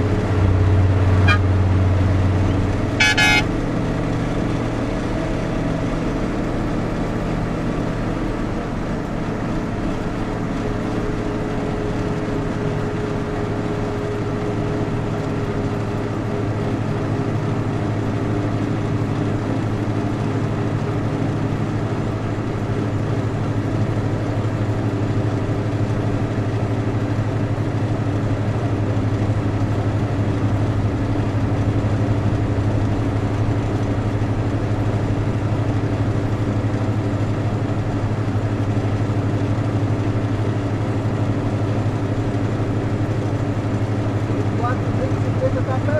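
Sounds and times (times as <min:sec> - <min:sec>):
road noise: 0:00.0 - 0:45.9
vehicle engine humming: 0:00.0 - 0:45.9.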